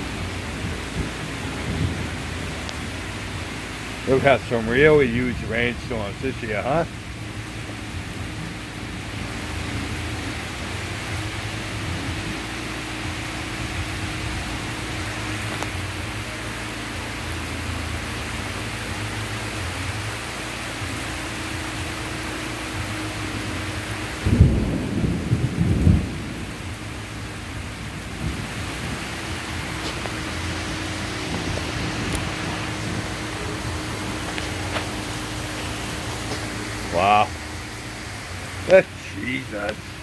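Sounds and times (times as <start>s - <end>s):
thunder rumbling: 0.0s - 16.2s, 22.8s - 40.0s
heavy rain pouring: 0.0s - 40.0s.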